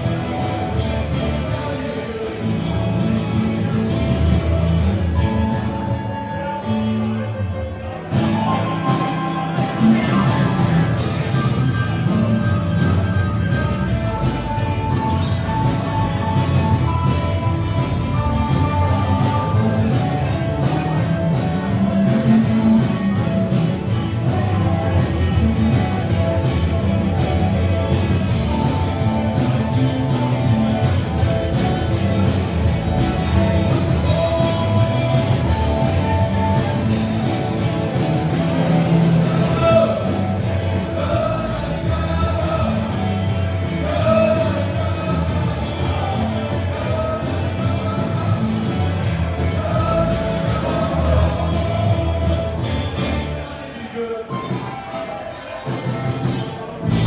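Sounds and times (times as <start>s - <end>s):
steady drum beat: 0.0s - 6.3s, 8.0s - 53.4s, 55.7s - 57.0s
live rock band: 0.0s - 57.0s.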